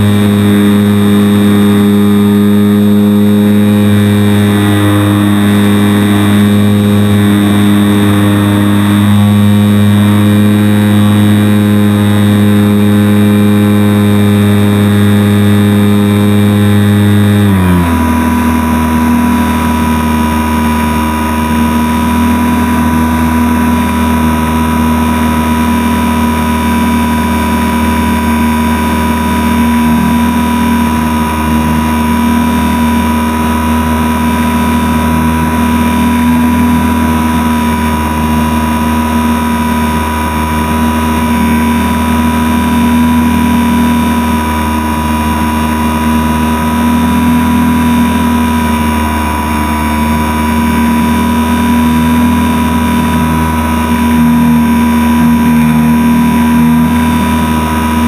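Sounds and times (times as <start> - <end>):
electric motor and propeller humming: 0.0 - 58.0.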